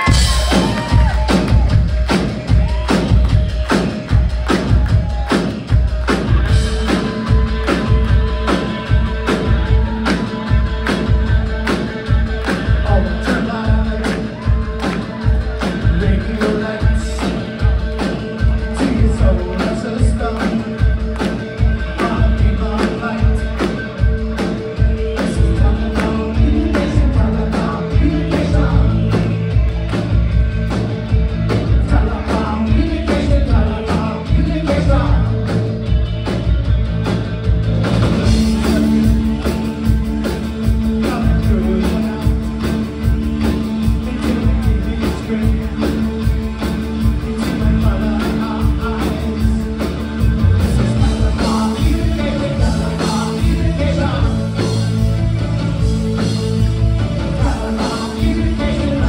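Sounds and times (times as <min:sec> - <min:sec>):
lead vocal singing: 0:00.0 - 0:35.7, 0:38.2 - 0:59.0
live rock band playing: 0:00.0 - 0:59.0.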